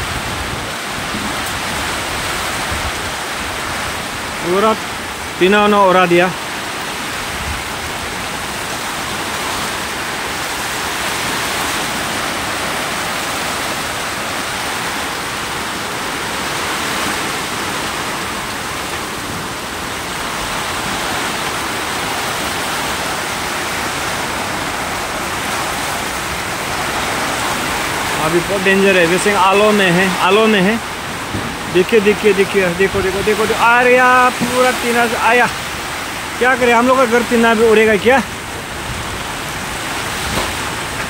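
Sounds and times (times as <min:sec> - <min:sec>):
heavy rain on tin roofs: 0:00.0 - 0:41.0.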